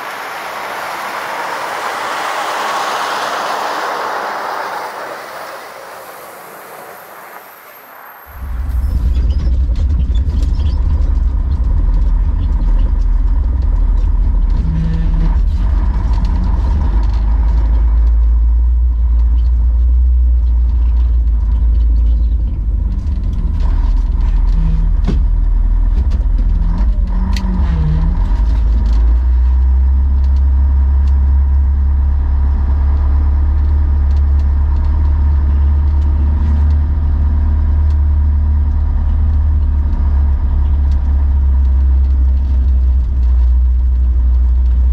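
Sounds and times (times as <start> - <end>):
truck diesel engine rumbling: 0.0 - 44.9.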